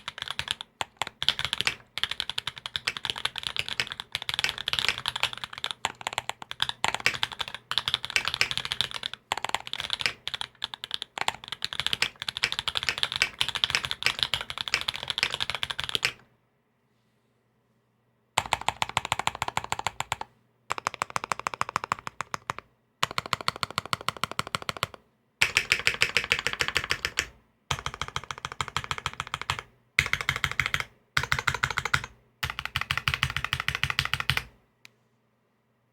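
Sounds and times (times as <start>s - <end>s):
mechanical keyboard typing: 0.0s - 16.2s, 18.4s - 34.5s.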